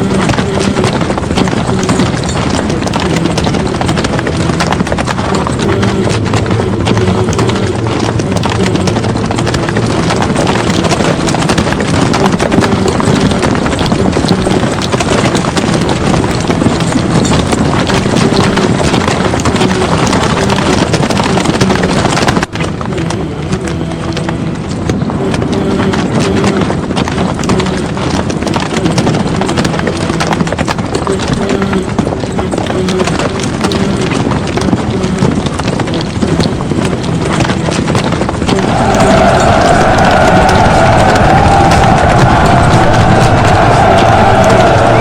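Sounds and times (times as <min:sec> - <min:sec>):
horses galloping: 0:00.0 - 0:45.0.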